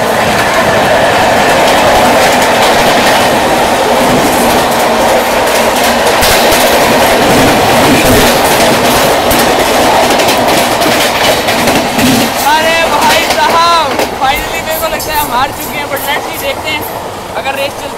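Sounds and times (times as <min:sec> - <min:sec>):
wheels and wind rushing: 0:00.0 - 0:17.9
clacks over rail joints: 0:01.4 - 0:17.9.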